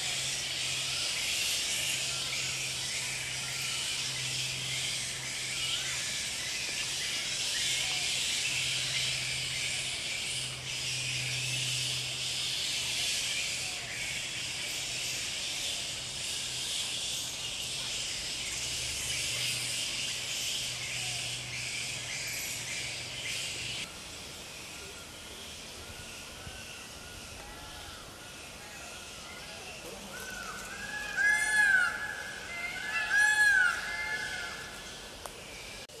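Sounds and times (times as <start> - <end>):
insect chorus shrill hiss: 0.0 - 36.0.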